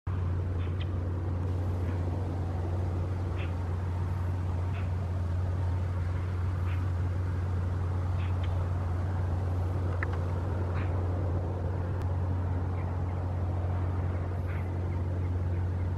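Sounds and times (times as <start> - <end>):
low engine drone: 0.1 - 15.9.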